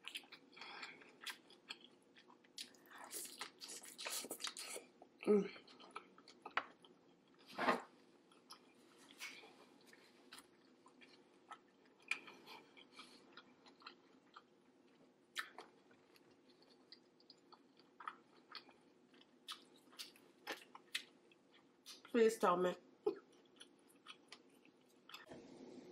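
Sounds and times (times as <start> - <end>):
person chewing food: 0.0 - 22.1, 23.1 - 25.8.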